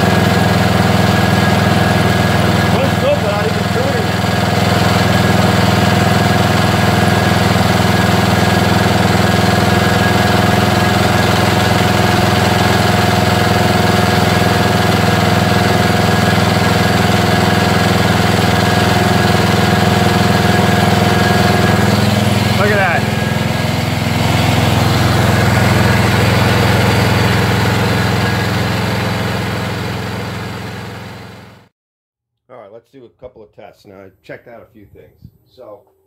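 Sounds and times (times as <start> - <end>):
riding mower engine running: 0.0 - 31.7.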